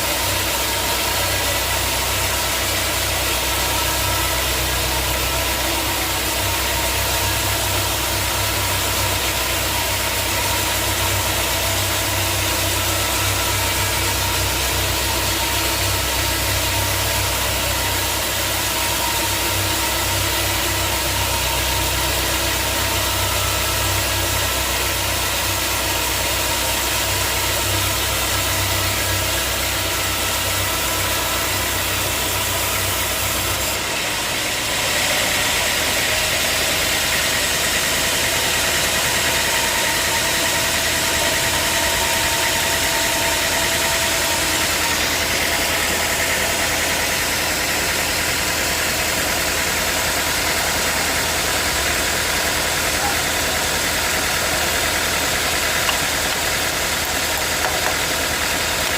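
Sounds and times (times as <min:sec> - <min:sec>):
band sawmill running: 0:00.0 - 0:58.9.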